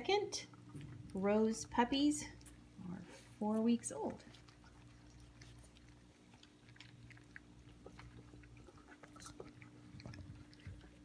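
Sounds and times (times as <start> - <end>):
puppies chewing food: 0.0 - 11.0
steady low hum: 0.0 - 11.0.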